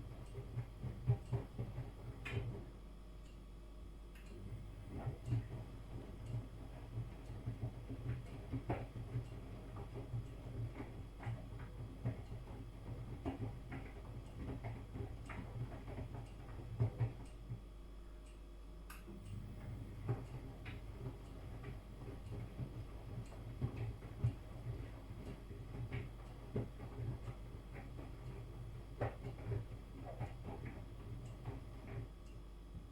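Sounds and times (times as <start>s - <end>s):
washing machine motor hum: 0.0s - 32.9s.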